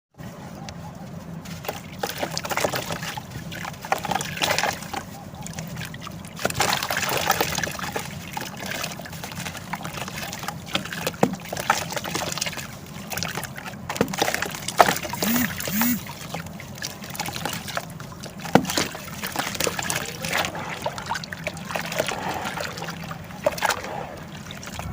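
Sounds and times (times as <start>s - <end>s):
water trickling and sloshing: 1.3s - 15.2s, 16.1s - 24.9s.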